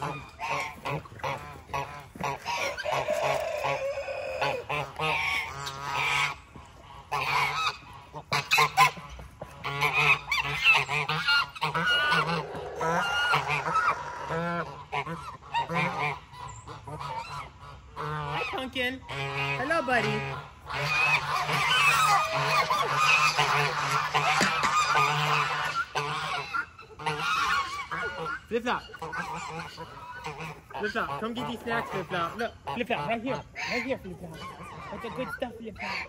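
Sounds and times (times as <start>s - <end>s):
geese honking: 0.0s - 36.0s.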